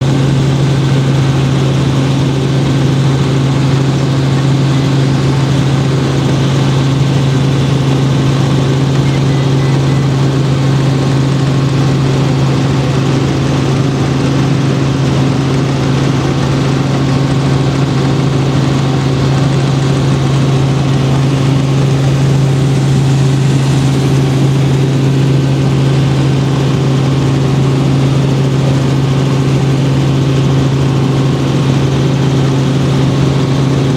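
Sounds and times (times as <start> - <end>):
helicopter engine and rotor: 0.0 - 33.9.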